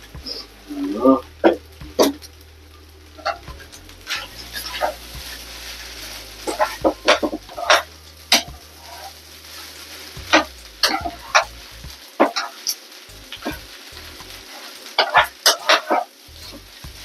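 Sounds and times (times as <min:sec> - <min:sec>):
frying hiss: 0:00.0 - 0:17.0.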